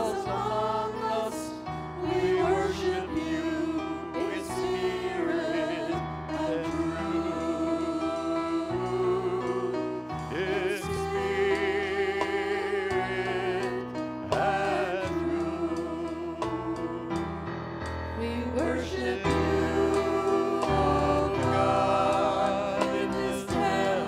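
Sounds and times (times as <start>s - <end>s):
keyboard chords: 0.0s - 24.0s.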